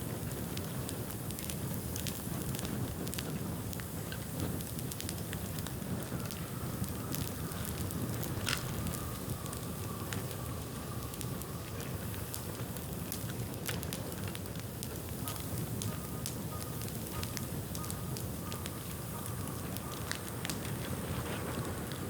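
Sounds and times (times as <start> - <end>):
bamboo bonfire crackling: 0.0 - 22.0.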